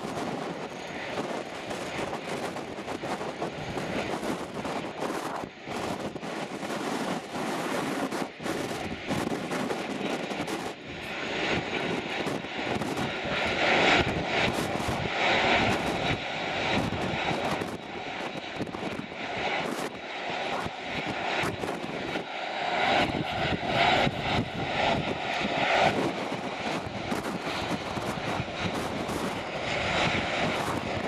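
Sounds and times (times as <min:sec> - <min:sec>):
jet engine rush: 0:00.0 - 0:31.0.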